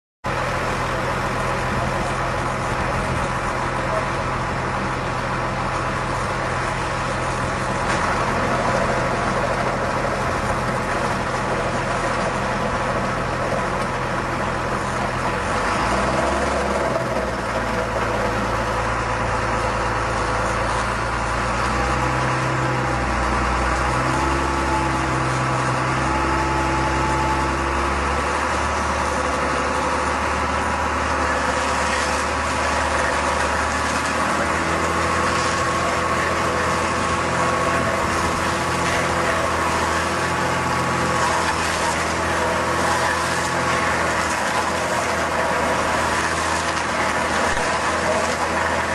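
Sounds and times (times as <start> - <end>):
tractor engine running: 0.3 - 48.9.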